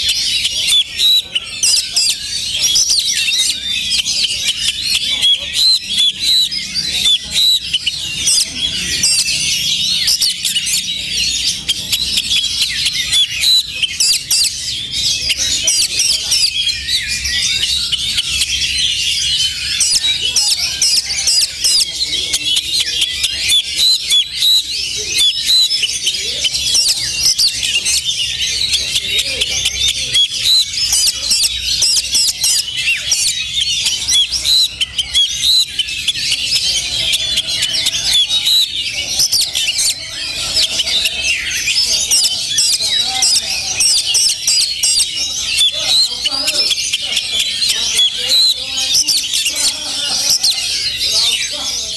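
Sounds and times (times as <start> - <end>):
birds chirping and whistling: 0.0 - 51.9.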